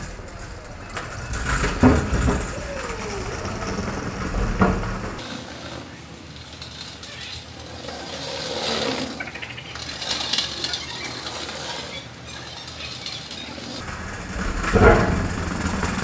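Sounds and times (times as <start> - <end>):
small wheels rolling on brick: 0.0 - 16.0.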